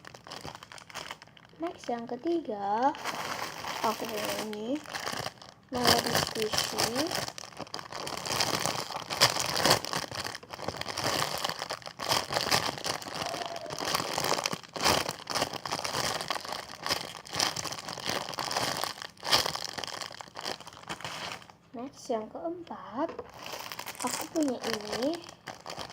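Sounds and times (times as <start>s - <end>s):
plastic crinkling and rustling: 0.0s - 21.6s, 23.1s - 25.9s.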